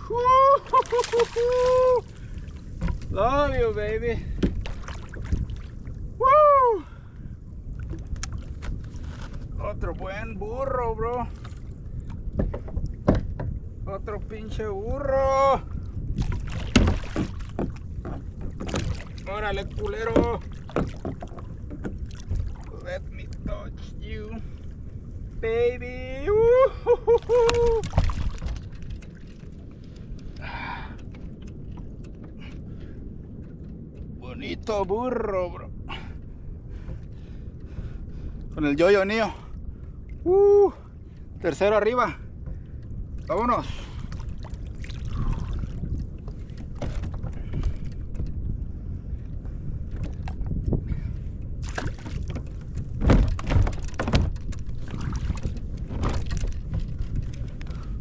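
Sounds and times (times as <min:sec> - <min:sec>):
low steady rumble: 0:00.0 - 0:58.0
wind buffeting microphone: 0:00.0 - 0:58.0.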